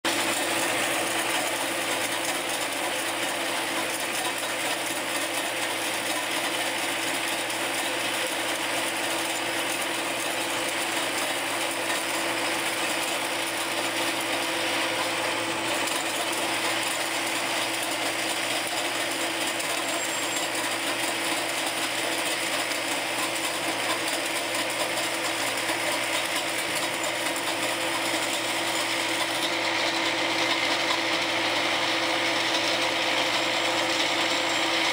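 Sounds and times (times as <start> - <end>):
rotary ice cutter clattering: 0.1 - 34.9.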